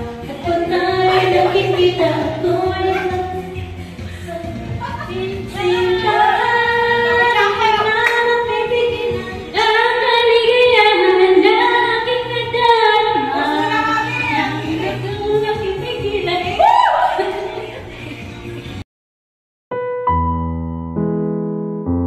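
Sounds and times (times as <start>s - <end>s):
karaoke backing music: 0.0s - 18.8s
woman singing karaoke: 0.0s - 18.8s.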